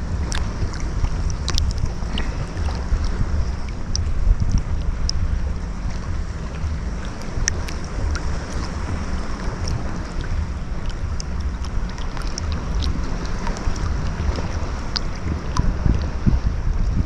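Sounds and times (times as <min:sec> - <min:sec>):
ocean waves on a beach: 0:00.0 - 0:17.0
wind buffeting microphone: 0:00.0 - 0:17.0
small ticks and crackles: 0:00.2 - 0:05.3, 0:05.9 - 0:16.0.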